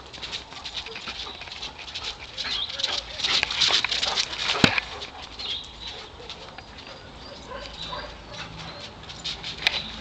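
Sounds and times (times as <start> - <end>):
paws pattering on dirt: 0.0 - 10.0.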